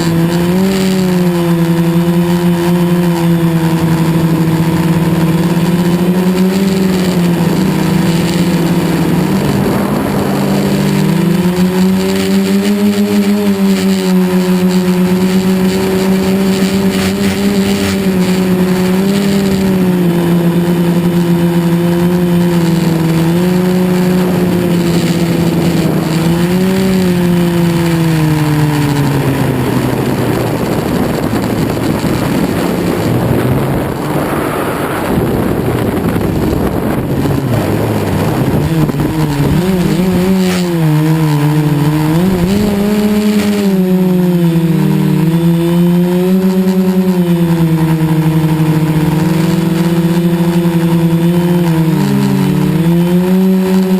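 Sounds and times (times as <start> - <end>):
drone motors humming: 0.0 - 53.9
rough rushing noise: 0.0 - 53.9.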